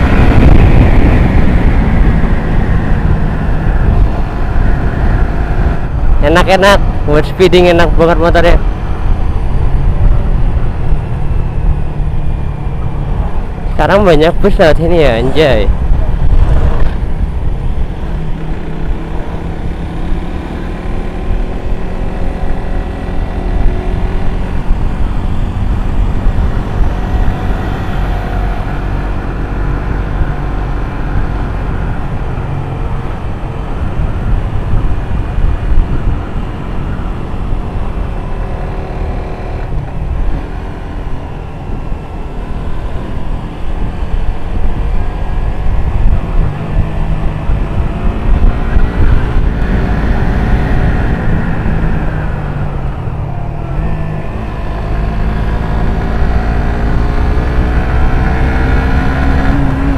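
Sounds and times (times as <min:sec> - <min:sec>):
low rumble of riding noise: 0:00.0 - 0:59.9
motorcycle engine running: 0:00.0 - 0:59.9.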